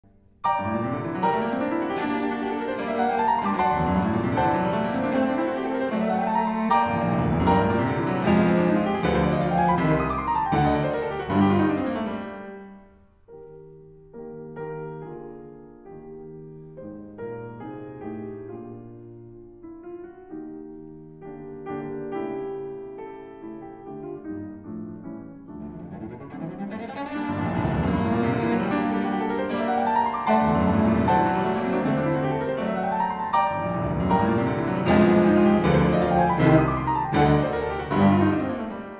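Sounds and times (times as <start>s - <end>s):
piano and strings music: 0.0s - 38.9s.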